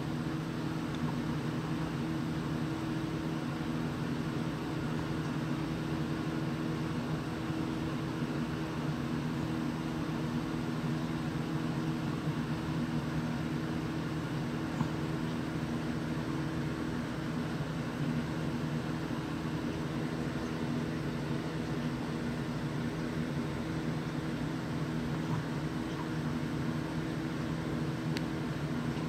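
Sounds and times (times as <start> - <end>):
aquarium pump humming: 0.0 - 29.0.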